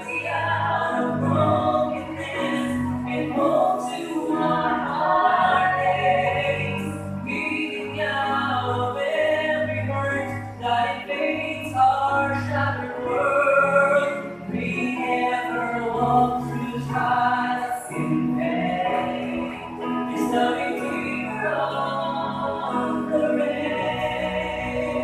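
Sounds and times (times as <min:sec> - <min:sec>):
instrumental accompaniment with bass: 0:00.0 - 0:25.0.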